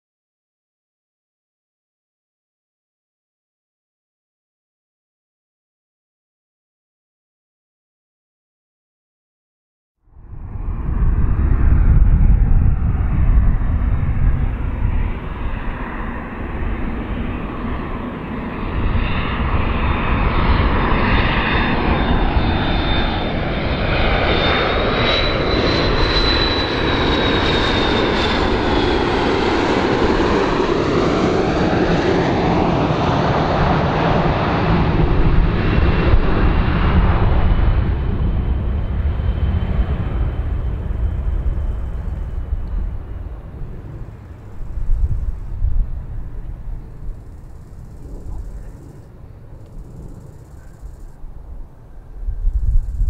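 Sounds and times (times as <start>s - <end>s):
jet airliner flying past: 10.0s - 53.0s.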